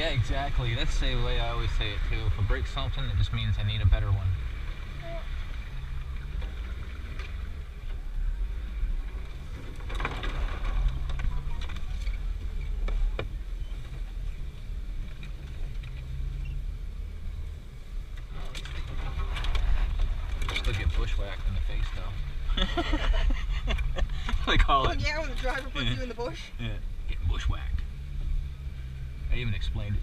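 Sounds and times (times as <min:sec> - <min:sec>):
engine running low: 0:00.0 - 0:30.0.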